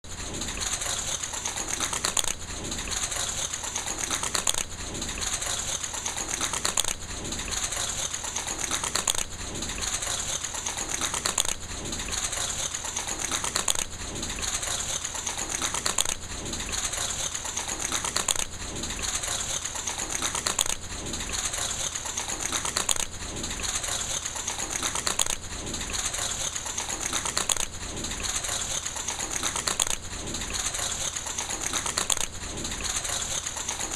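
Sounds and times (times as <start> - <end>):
fast clatter of clicks: 0.0 - 33.9.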